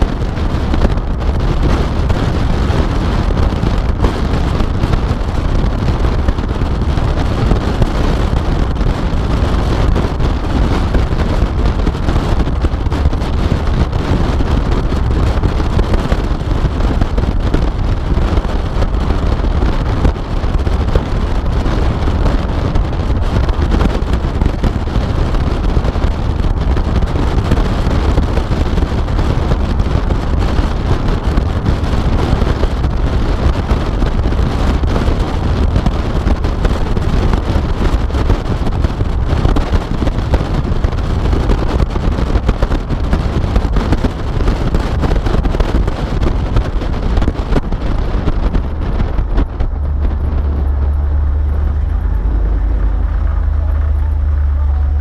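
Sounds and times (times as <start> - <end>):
road and vehicle noise: 0.0 - 55.0
wind buffeting on microphone: 0.0 - 55.0.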